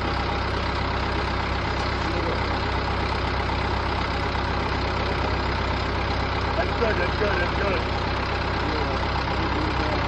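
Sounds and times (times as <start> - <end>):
heavy machine engine idling: 0.0 - 10.0.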